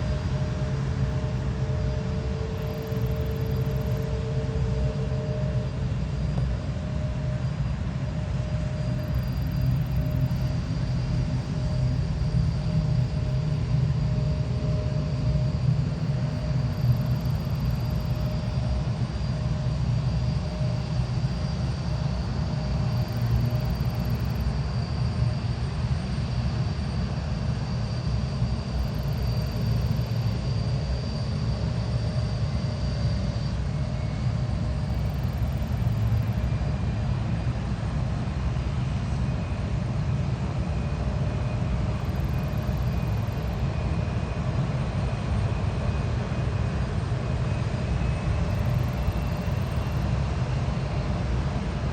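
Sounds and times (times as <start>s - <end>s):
thin high engine whine: 0.0s - 51.9s.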